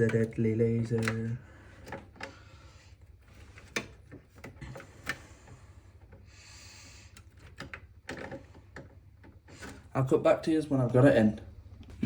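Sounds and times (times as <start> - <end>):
parts and cables scraping: 0.0 - 10.0.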